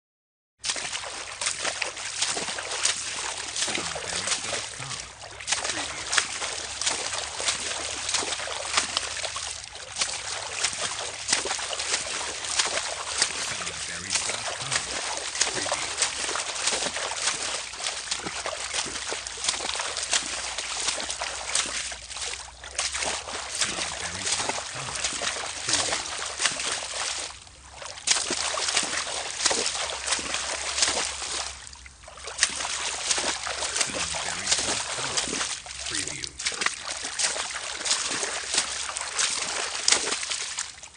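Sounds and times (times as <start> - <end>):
footsteps wading through water: 0.6 - 40.9.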